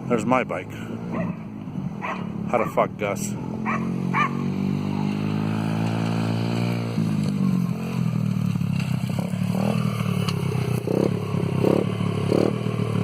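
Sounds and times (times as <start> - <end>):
dirt bike engine running: 0.8 - 13.0.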